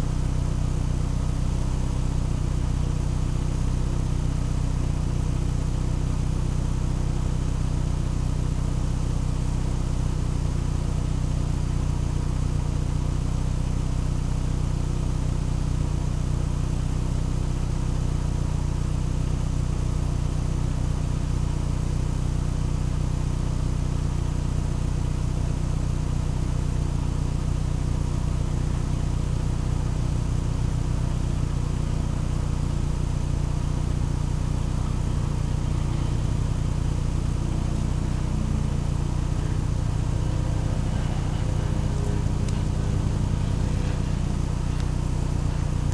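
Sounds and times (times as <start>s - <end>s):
vehicle engine idling: 0.0s - 45.9s.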